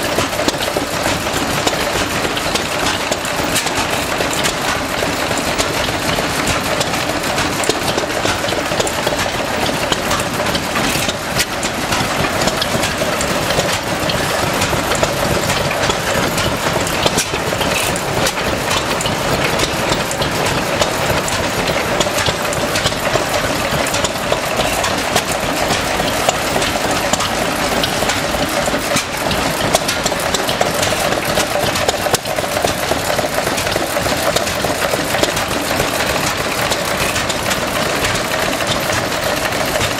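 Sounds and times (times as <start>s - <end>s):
stationary engines idling: 0.0s - 39.9s.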